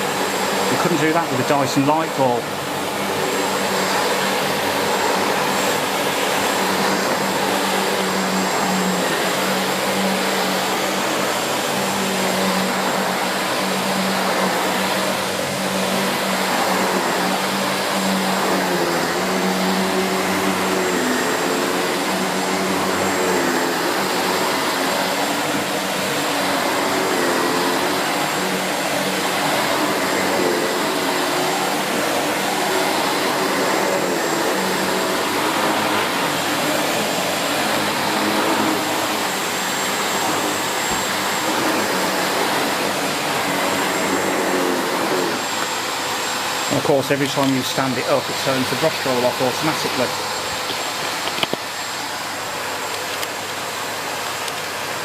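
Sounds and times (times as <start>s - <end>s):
upright vacuum cleaner running: 0.0s - 55.0s.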